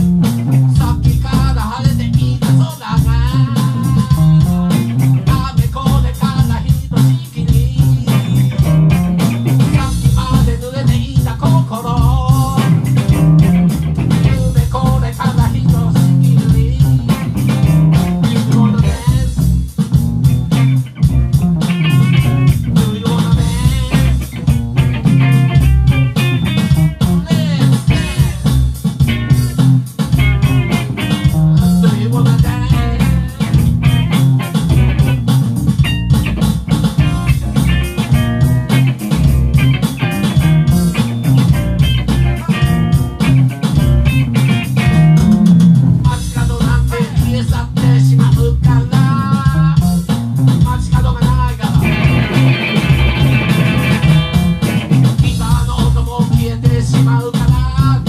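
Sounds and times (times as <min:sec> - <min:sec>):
bass guitar: 0:00.0 - 0:58.0
drum kit hits: 0:00.0 - 0:58.0
electric guitar: 0:00.0 - 0:58.0.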